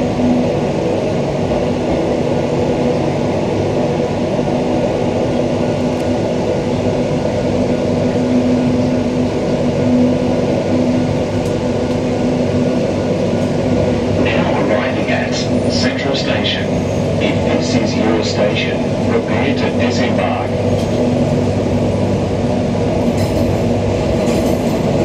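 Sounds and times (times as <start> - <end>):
electric train interior running noise: 0.0 - 25.0.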